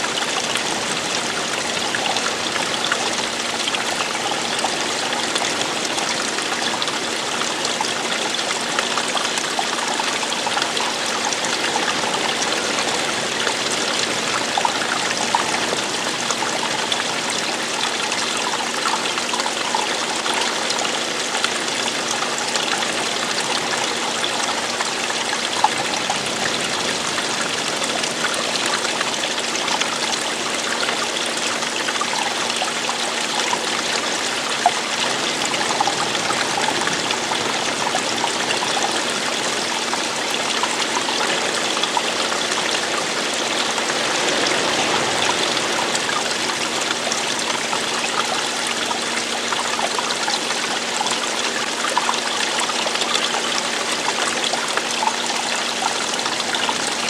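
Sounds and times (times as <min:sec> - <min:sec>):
stream water rushing and trickling: 0:00.0 - 0:57.0.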